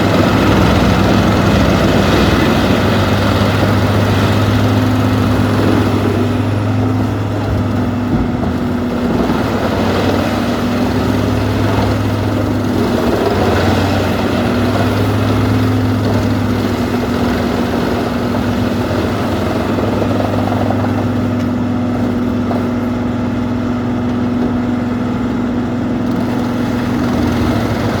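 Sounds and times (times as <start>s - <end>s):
wood chipper running: 0.0s - 28.0s.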